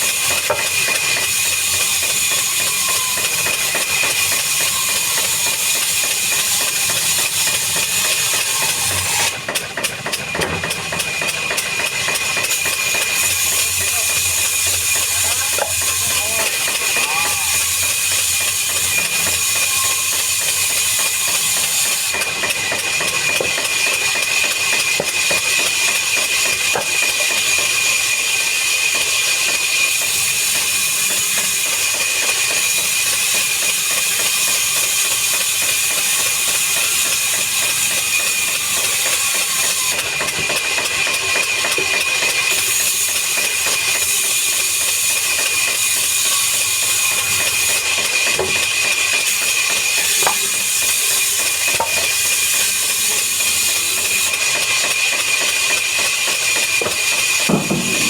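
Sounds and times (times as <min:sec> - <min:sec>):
woodworking machine whining: 0:00.0 - 0:58.0.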